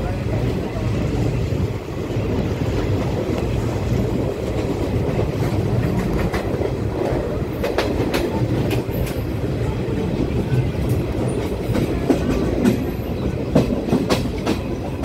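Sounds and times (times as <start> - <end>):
clickety-clack over rail joints: 0.0 - 15.0
train wheels rumbling on rails: 0.0 - 15.0.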